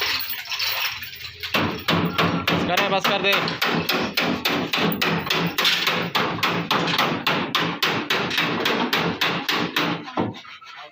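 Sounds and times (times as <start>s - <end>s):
rapid hammering: 1.5s - 10.4s.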